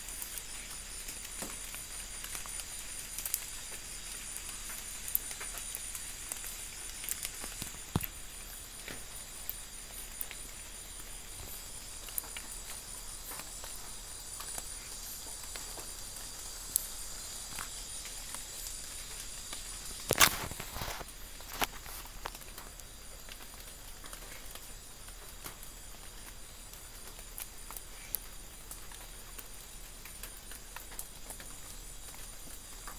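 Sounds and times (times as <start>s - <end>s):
crickets shrilling: 0.0s - 32.9s.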